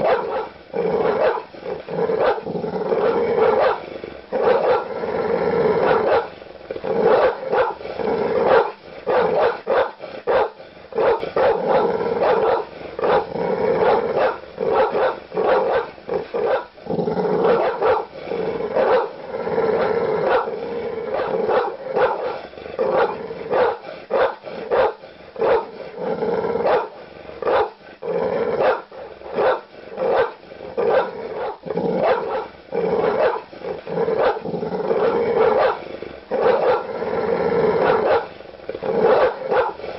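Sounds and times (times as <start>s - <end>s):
large dog barking aggressively: 0.0s - 39.9s.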